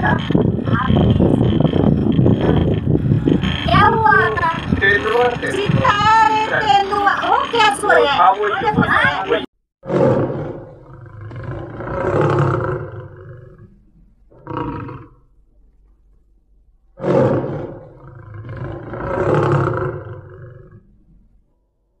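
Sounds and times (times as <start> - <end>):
big cat roaring: 0.0 - 15.4, 16.9 - 21.1.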